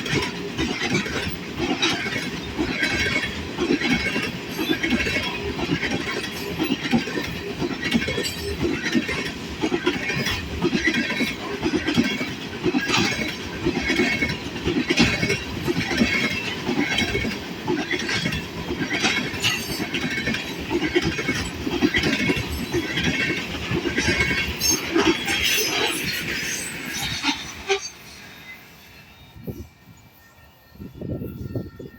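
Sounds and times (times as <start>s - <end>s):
train wheels clattering over rail joints: 0.0s - 28.3s.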